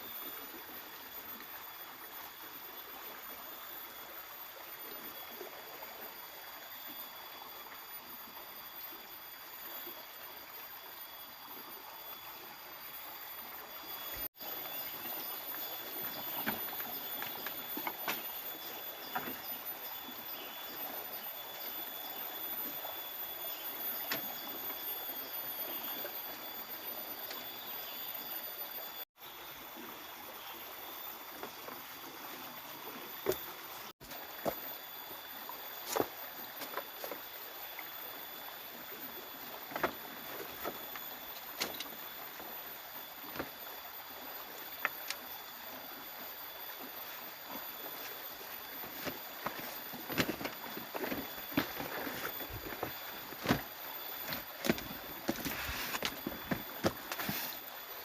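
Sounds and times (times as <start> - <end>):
river water running: 0.0 - 58.0.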